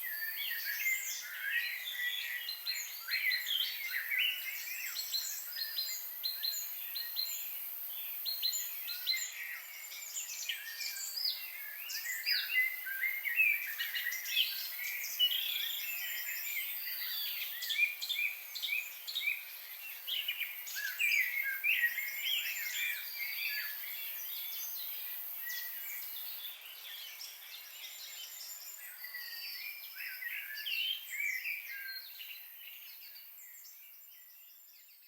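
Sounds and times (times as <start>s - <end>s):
steady high-pitched hiss: 0.0s - 34.7s
songbirds chirping and singing: 0.0s - 35.0s.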